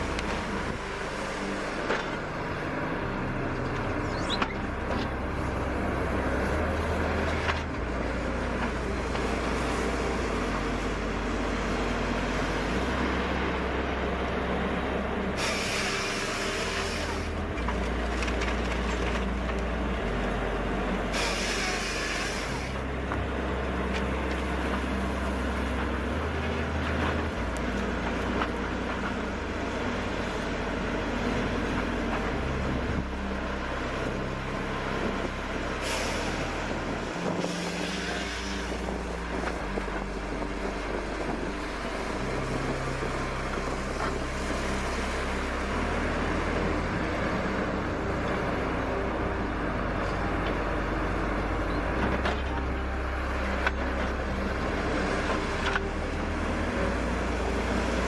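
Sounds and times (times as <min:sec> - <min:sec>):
heavy machinery droning: 0:00.0 - 0:58.0.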